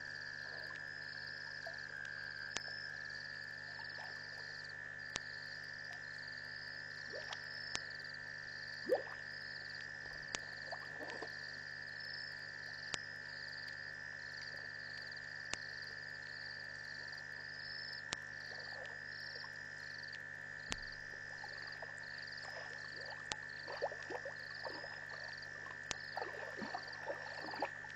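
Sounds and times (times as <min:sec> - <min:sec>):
frogs croaking: 0:00.0 - 0:27.9
high insect trill: 0:00.0 - 0:27.9.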